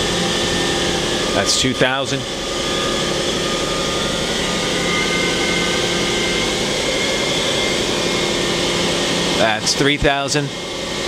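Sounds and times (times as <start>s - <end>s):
machine spindle hum and whine: 0.0s - 11.0s.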